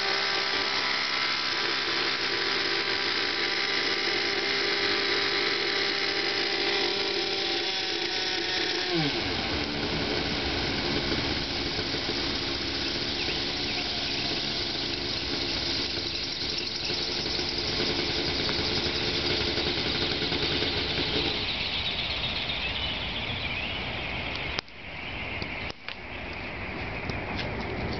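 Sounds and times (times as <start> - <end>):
rc helicopter engine whine: 0.0 - 27.9.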